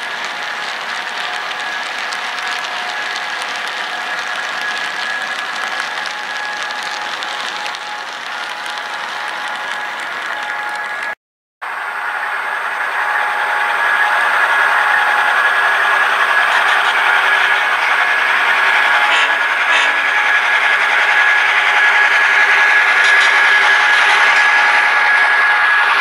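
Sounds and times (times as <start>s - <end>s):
model train hum and rail noise: 0.0s - 26.0s.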